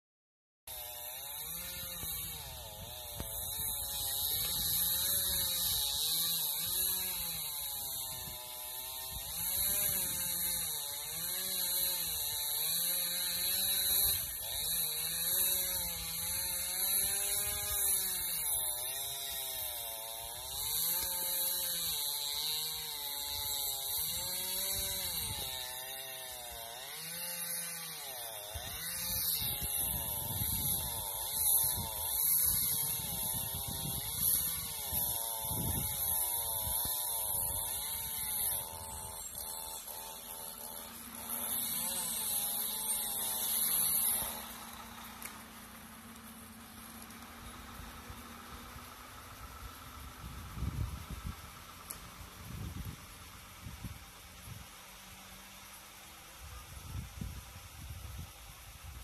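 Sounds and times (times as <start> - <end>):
chainsaw cutting tree: 0.7 - 59.0.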